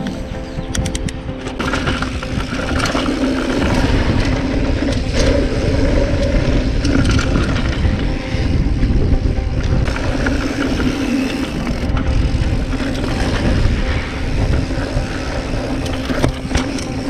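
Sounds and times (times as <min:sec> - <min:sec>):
gravel and bike rattles: 0:00.0 - 0:17.0
wind on camera: 0:00.0 - 0:17.0
bike tyres rumbling on dirt: 0:01.5 - 0:17.0.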